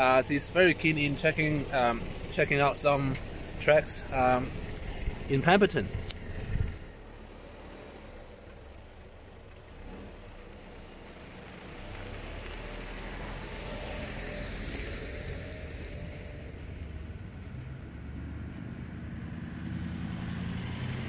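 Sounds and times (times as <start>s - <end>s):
second vehicle approaching: 0.0s - 21.0s
vehicle driving on gravel: 0.0s - 21.0s.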